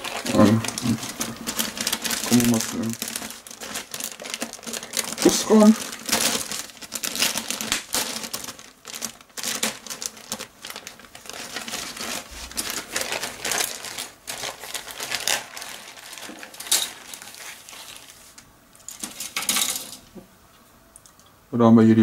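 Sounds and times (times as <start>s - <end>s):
plastic bag crinkling: 0.0s - 20.2s.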